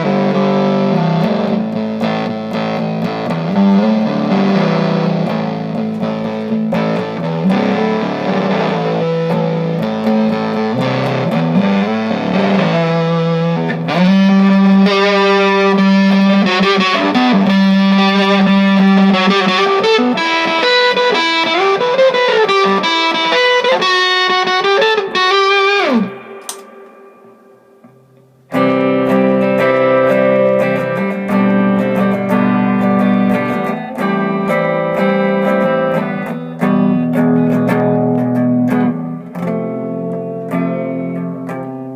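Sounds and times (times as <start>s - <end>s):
electric guitar playing: 0.0s - 41.9s.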